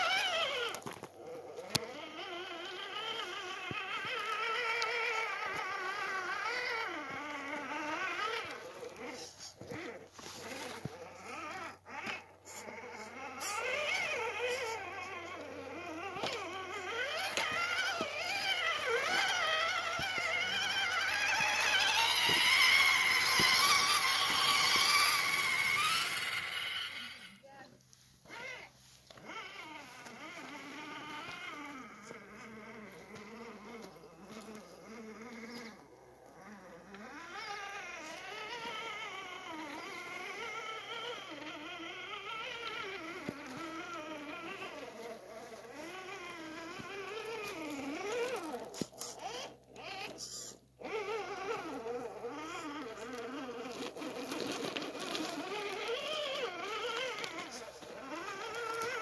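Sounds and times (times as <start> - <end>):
electric motor and gear whine: 0.0 - 59.0.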